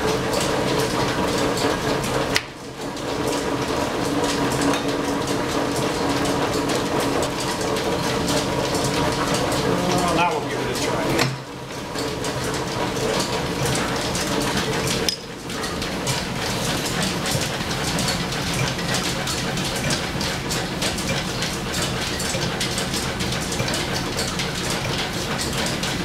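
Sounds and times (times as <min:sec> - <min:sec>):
belt-driven lathe clattering: 0:00.0 - 0:26.0.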